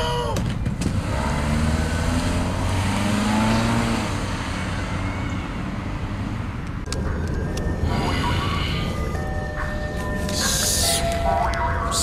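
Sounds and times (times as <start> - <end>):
car engine accelerating: 0.7 - 11.9.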